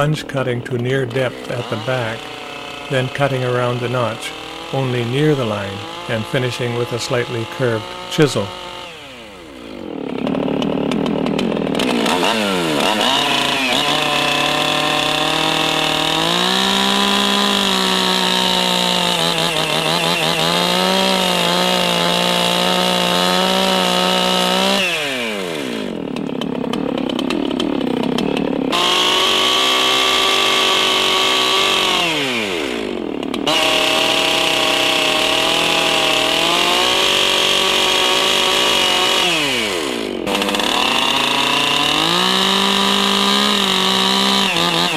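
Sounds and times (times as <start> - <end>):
chainsaw cutting log: 0.0 - 44.9.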